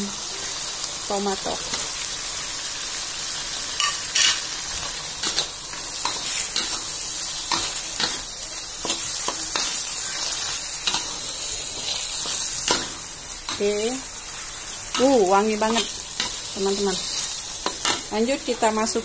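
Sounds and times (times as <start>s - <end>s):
paste sizzling in hot oil: 0.0s - 19.0s.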